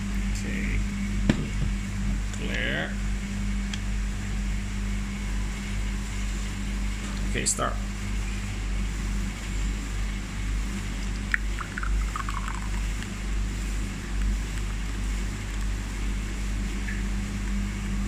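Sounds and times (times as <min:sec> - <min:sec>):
fan humming: 0:00.0 - 0:18.0.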